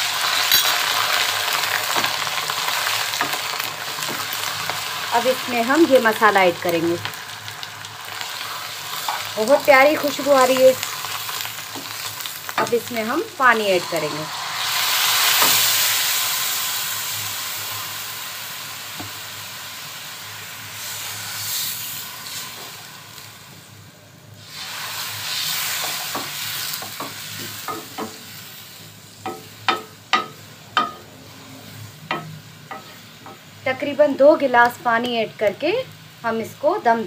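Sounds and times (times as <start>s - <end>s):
masala sizzling in pot: 0.0s - 37.0s.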